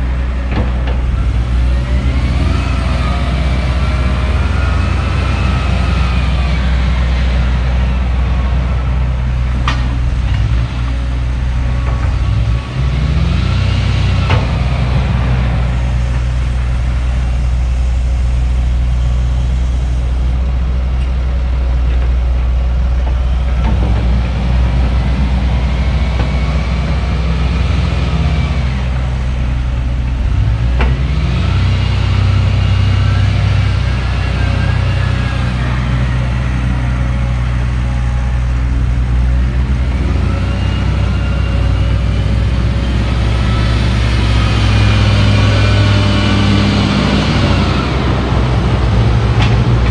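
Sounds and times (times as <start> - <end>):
diesel excavator engine under load: 0.0 - 49.9.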